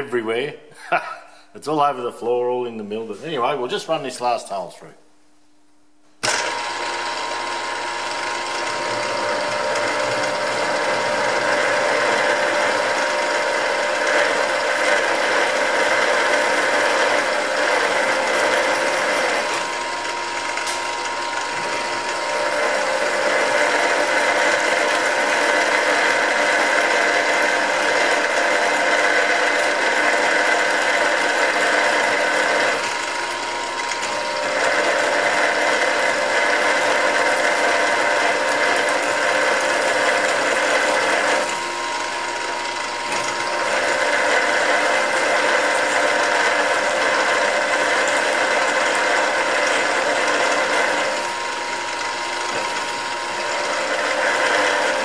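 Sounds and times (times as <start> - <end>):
milling machine drilling metal: 6.2 - 55.0.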